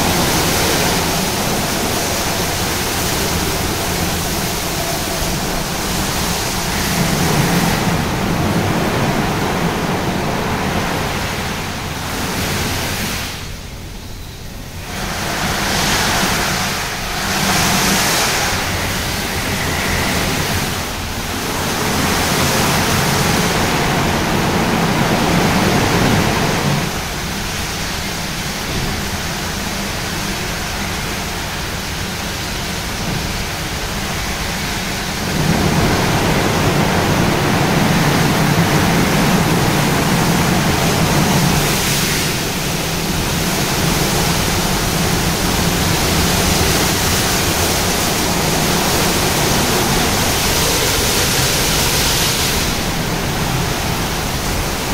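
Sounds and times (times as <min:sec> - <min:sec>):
running water: 0:00.0 - 0:13.9, 0:14.5 - 0:54.9.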